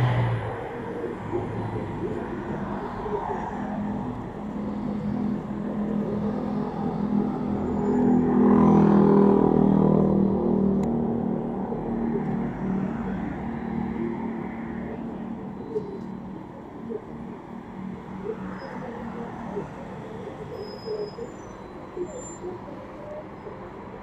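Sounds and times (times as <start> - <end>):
city road traffic: 0.0 - 24.0
large vehicle engine: 0.0 - 24.0.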